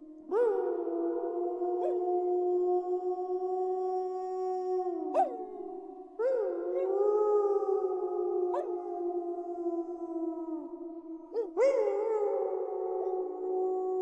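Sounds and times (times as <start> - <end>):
wolves howling together: 0.3 - 14.0.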